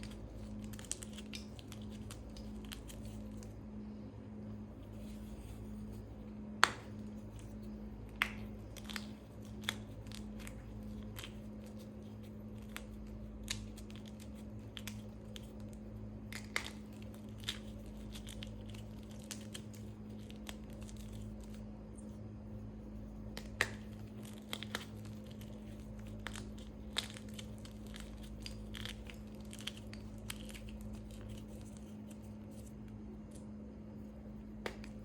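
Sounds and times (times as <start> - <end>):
chalk crunching and crumbling: 0.0 - 3.5, 4.8 - 22.2, 22.9 - 35.0
chalk cracking: 0.0 - 3.6, 4.8 - 22.2, 23.2 - 35.0
low hum: 0.0 - 35.0.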